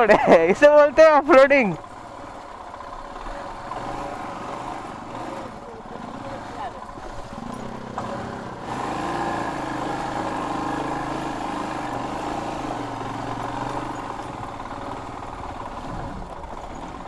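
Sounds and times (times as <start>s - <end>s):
motorcycle engine at low speed: 0.0s - 17.0s.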